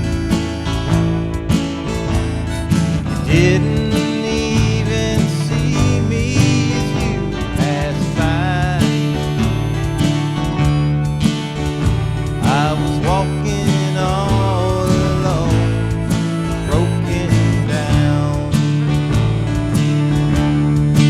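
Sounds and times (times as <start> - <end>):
bass notes: 0.0 - 21.0
country guitar music: 0.0 - 21.0
sliding bending lead notes: 0.0 - 21.0.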